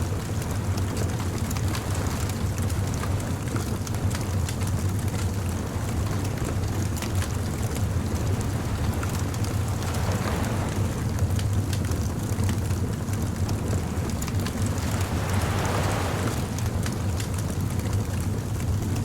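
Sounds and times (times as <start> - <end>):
beach ambience rumble: 0.0 - 19.0
bonfire crackling: 0.0 - 19.0.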